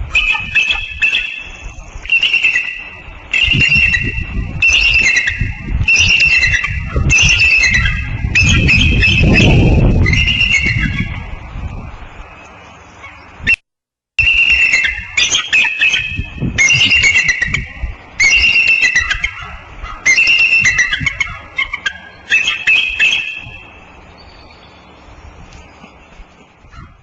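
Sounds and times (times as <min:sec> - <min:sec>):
eagle calling: 0:00.0 - 0:11.4, 0:14.2 - 0:27.0.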